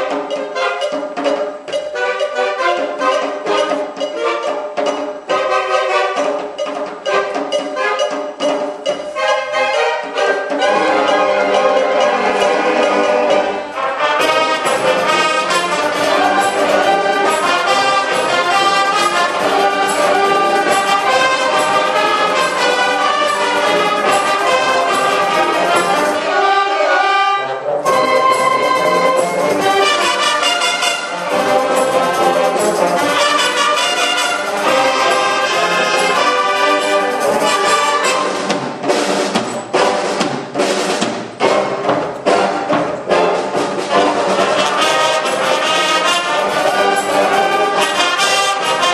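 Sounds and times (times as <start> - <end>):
brass marching band playing: 0.0 - 48.9.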